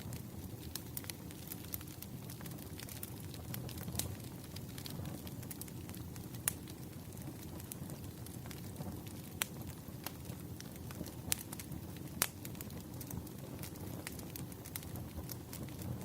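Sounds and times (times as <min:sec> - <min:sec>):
bonfire flames rumbling: 0:00.0 - 0:16.0
burning wood crackling and popping: 0:00.0 - 0:16.0.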